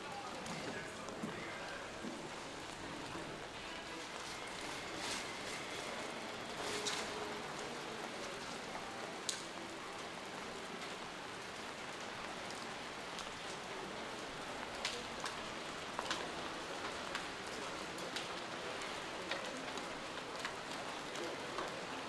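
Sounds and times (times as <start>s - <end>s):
steady rain falling: 0.0s - 22.0s
sharp raindrop ticks: 2.4s - 22.0s.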